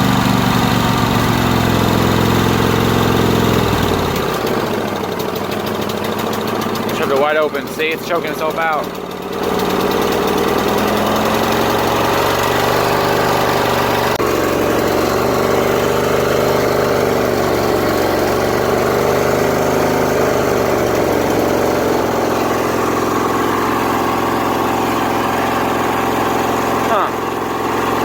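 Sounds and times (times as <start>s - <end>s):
lawn tractor engine wavering: 0.0s - 28.0s.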